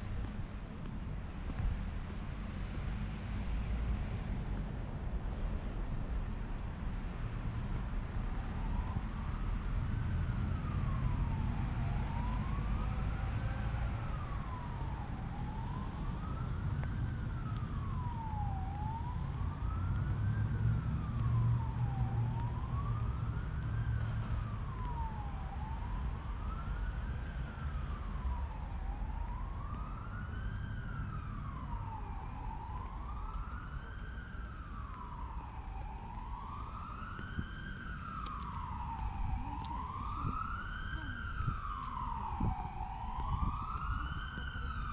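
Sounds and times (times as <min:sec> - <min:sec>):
siren wailing: 0:08.5 - 0:44.9.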